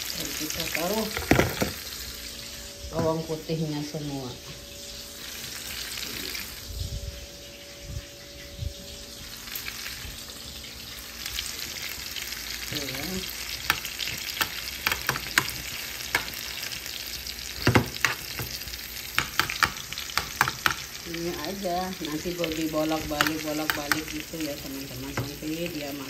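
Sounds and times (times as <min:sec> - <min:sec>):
chicken sizzling in butter: 0:00.0 - 0:08.2, 0:08.8 - 0:26.0.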